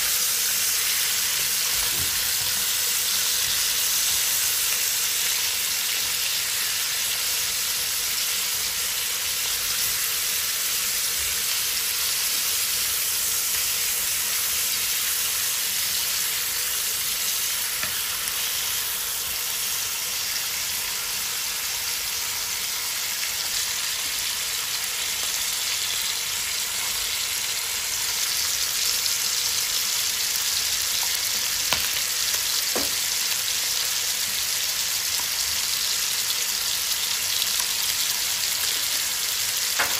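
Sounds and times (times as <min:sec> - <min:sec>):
chicken sizzling in a wok: 0:00.0 - 0:39.9.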